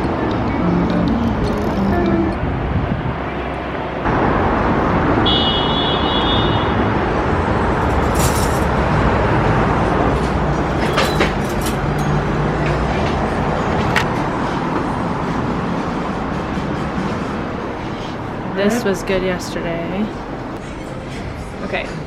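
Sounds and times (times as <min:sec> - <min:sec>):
passing road traffic: 0:00.0 - 0:22.0.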